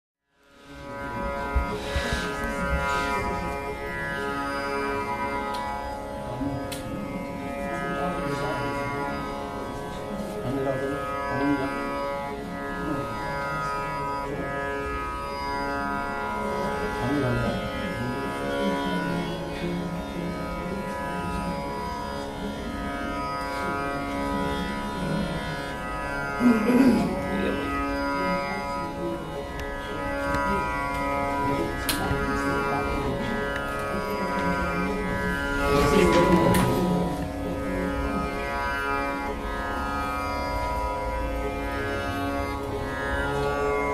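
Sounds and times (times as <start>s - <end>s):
sustained drone: 0.4s - 43.9s
sliding plucked string notes: 0.6s - 13.4s, 20.3s - 43.9s.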